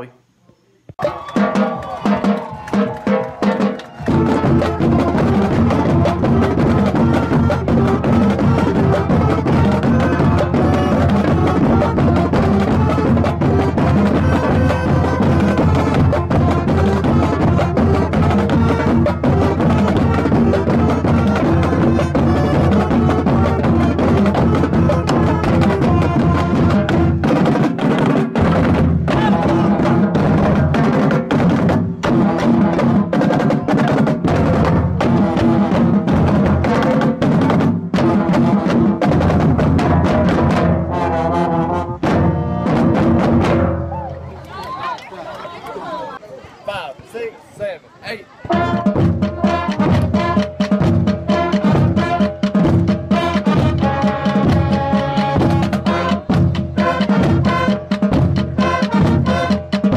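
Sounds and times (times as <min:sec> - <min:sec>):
marching band playing: 0:01.0 - 0:59.9.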